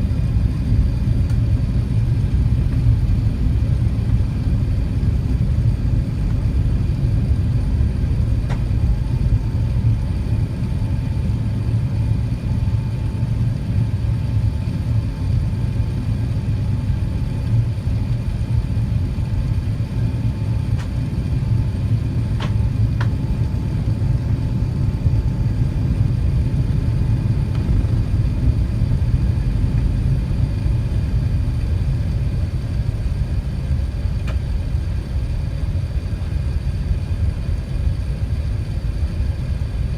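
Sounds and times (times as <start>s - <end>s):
airliner engine rumble in cabin: 0.0s - 39.9s.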